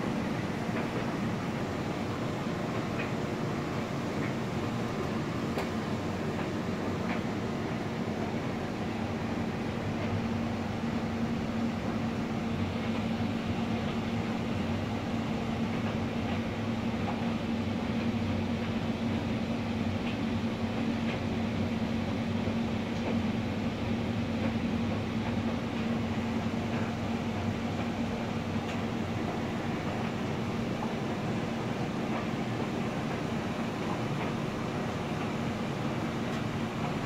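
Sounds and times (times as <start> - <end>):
laundry machines humming: 0.0 - 37.0.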